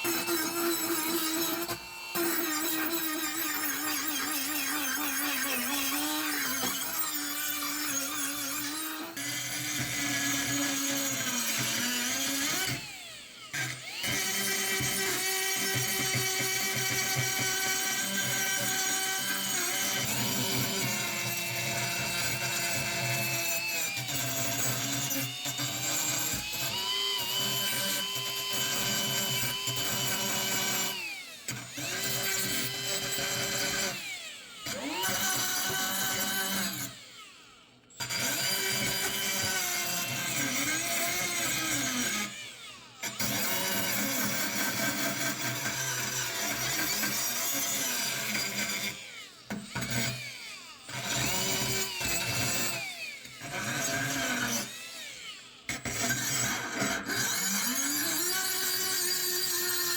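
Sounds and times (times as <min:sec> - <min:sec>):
electric power tool motor whine: 0:00.0 - 0:59.9.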